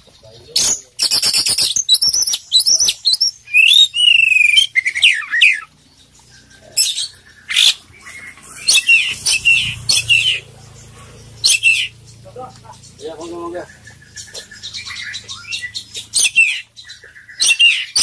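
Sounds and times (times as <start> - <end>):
magpie-robin singing: 0.0 - 18.0.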